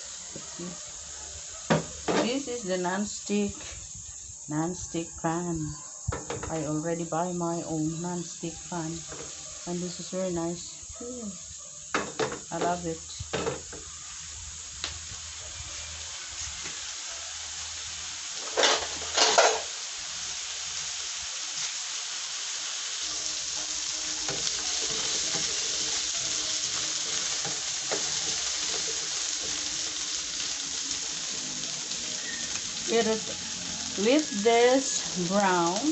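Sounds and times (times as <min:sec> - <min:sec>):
vegetables sizzling in hot oil: 0:00.0 - 0:35.9.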